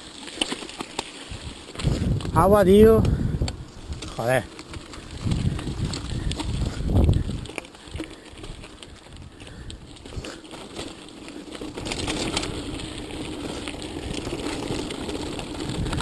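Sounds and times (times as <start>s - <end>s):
bike clicks and rattles: 0.0s - 16.0s
bike tyres on gravel: 0.0s - 16.0s.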